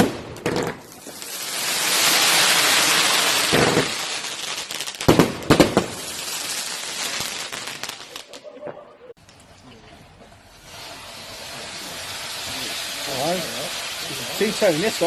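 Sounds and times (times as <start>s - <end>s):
firework hissing: 0.0s - 8.4s, 10.3s - 15.0s
firework crackling and popping: 0.0s - 8.5s, 9.2s - 15.0s.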